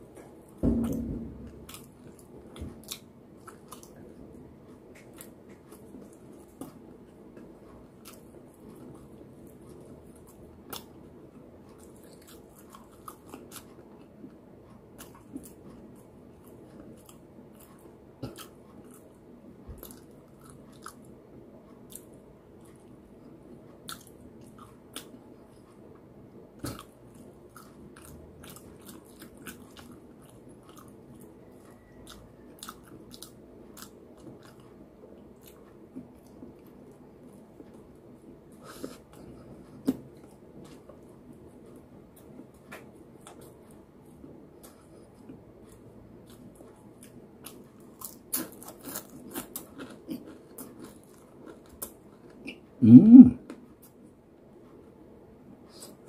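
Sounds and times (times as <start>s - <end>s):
person chewing food: 0.1s - 54.0s.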